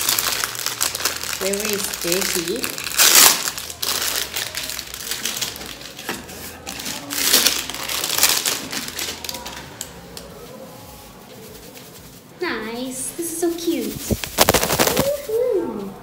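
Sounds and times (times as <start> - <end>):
packaging crinkling and rustling: 0.0 - 12.2, 13.5 - 15.9.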